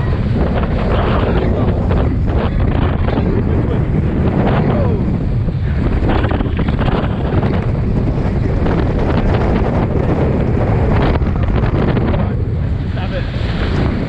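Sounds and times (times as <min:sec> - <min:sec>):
water rushing along hulls: 0:00.0 - 0:14.0
wind buffeting microphone: 0:00.0 - 0:14.0.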